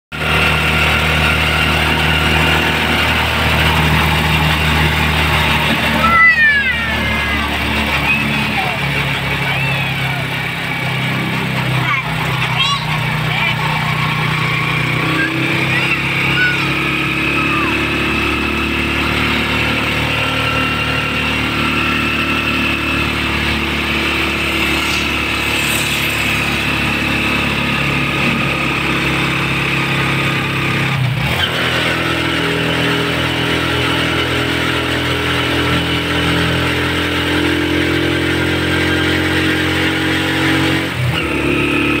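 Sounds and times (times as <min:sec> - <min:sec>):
motorcycle engine running: 0:00.1 - 0:42.0.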